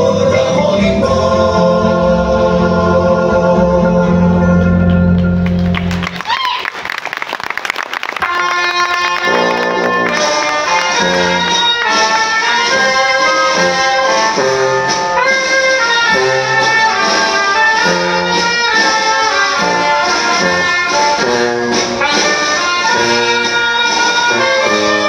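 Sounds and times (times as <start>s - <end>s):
brass band playing dance tune: 0.0s - 6.6s, 8.0s - 25.0s.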